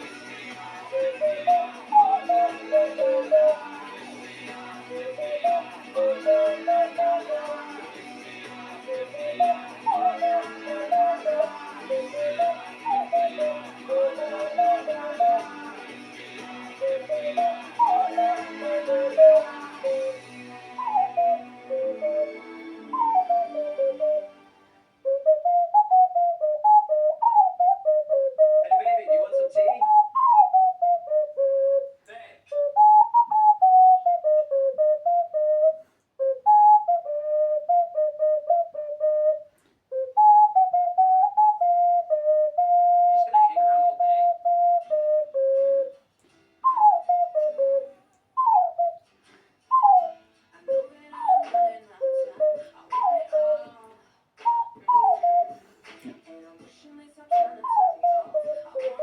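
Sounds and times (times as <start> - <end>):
ocarina melody: 0.0 - 46.0, 46.6 - 49.1, 49.7 - 53.8, 54.4 - 55.7, 57.3 - 59.0.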